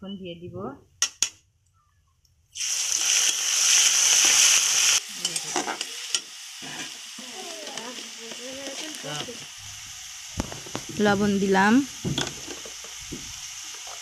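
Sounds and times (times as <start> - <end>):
paste sizzling in hot oil: 2.5 - 14.0.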